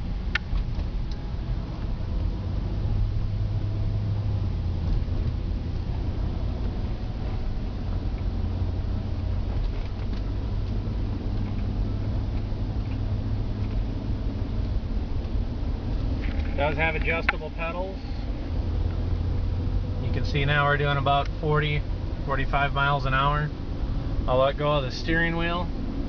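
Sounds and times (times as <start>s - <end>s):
car cabin engine and tyre drone: 0.0s - 26.0s.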